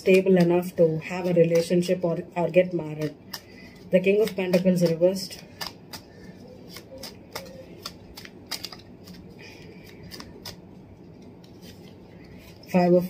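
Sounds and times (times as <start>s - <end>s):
cards being shuffled: 0.0s - 2.0s, 2.6s - 12.9s.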